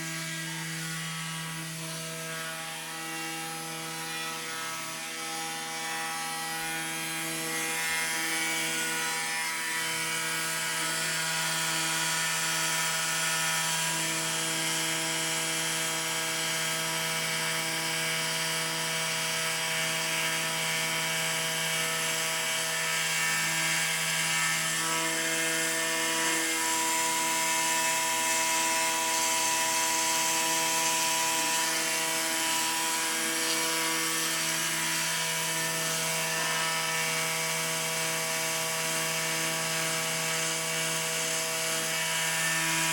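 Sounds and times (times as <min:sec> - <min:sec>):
engraving machine whine and hiss: 0:00.0 - 0:42.9.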